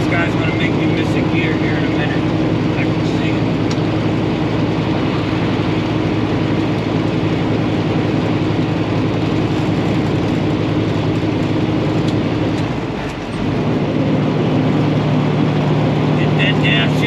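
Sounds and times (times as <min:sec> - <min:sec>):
truck diesel engine pulling under load: 0:00.0 - 0:17.0.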